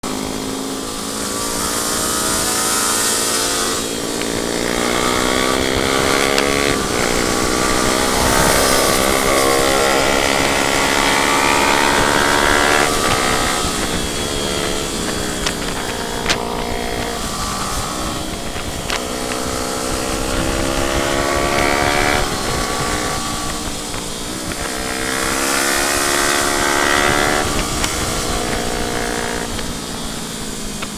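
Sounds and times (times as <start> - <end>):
motorcycle engine accelerating: 0.0 - 30.9
wind noise: 0.0 - 30.9.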